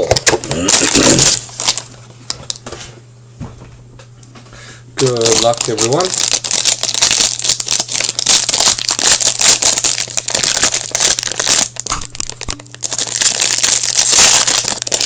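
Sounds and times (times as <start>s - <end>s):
foil wrappers crinkling and tearing: 0.0s - 2.6s, 5.0s - 15.0s.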